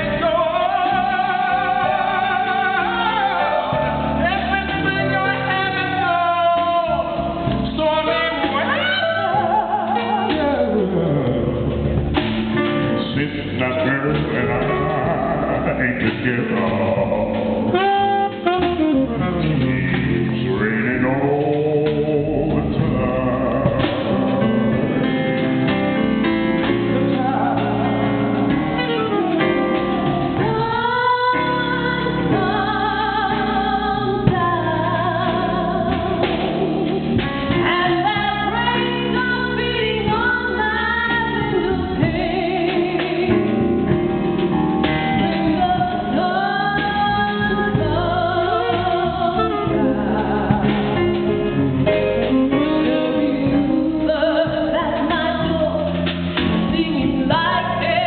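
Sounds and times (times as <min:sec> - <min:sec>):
band accompaniment: 0:00.0 - 0:58.0
person singing blues: 0:00.0 - 0:58.0.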